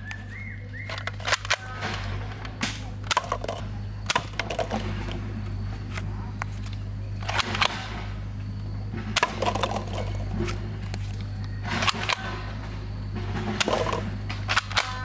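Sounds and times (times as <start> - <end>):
steady low hum: 0.0 - 15.0
toy guns clicking: 0.0 - 15.0.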